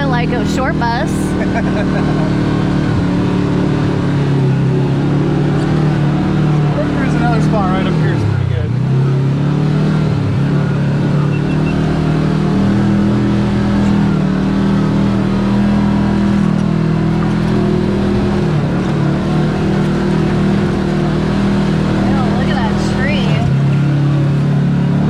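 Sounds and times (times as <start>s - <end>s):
utv engine running: 0.0s - 25.0s.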